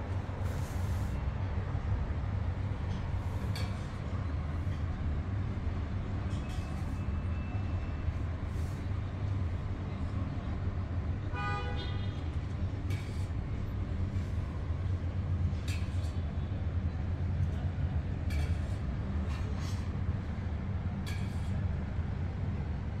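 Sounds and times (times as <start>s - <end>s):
low rumble of vehicles: 0.0s - 23.0s.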